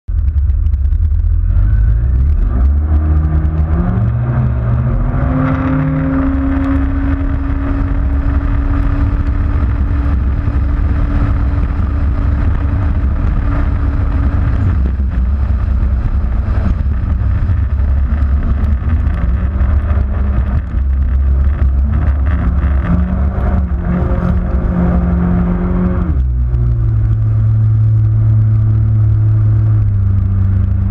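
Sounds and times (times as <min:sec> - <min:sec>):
constant low rumble: 0:00.0 - 0:30.9
watercraft engine revving: 0:01.6 - 0:30.9.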